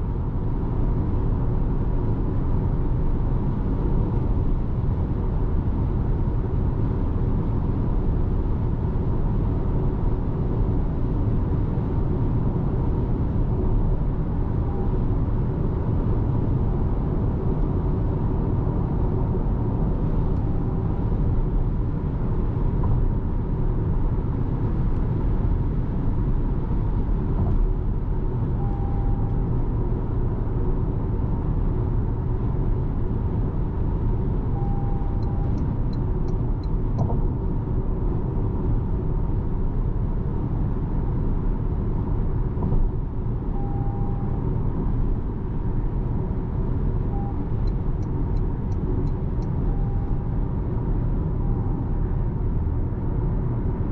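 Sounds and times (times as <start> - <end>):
road and tyre noise in car cabin: 0.0 - 53.9.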